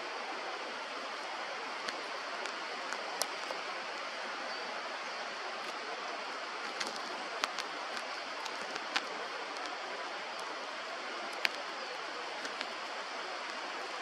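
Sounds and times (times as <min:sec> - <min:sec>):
mountain stream rushing: 0:00.0 - 0:14.0.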